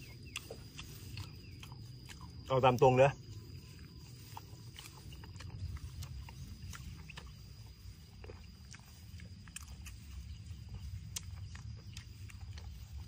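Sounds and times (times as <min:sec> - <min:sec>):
chewing with wet smacks: 0:00.0 - 0:13.0.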